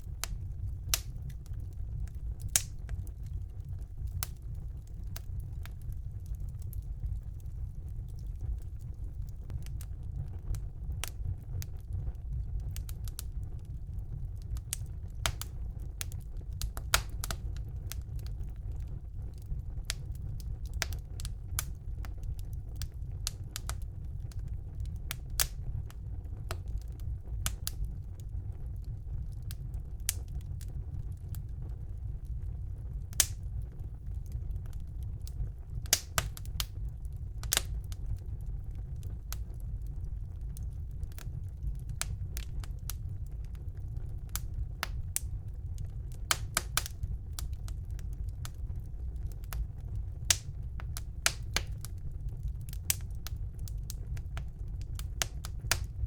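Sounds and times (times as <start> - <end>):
fire crackles and pops: 0.0 - 56.0
low rumble of flames: 0.0 - 56.0.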